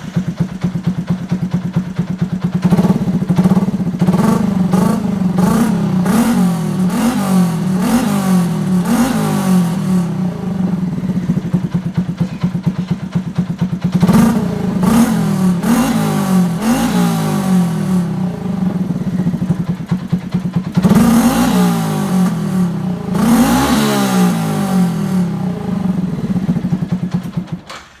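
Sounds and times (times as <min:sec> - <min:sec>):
motorcycle engine revving high: 0:00.0 - 0:27.6
motorcycle engine throttle blips: 0:00.0 - 0:28.0.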